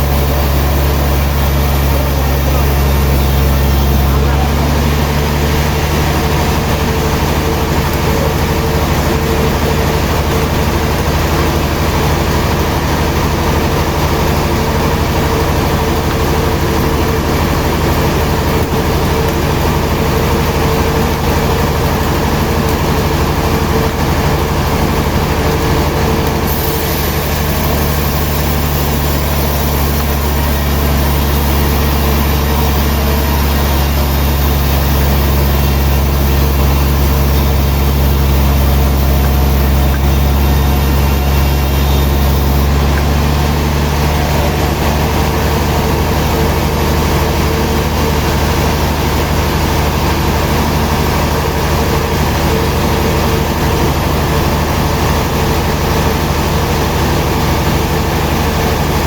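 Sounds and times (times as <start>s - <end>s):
sawmill machinery rumbling: 0.0s - 59.0s.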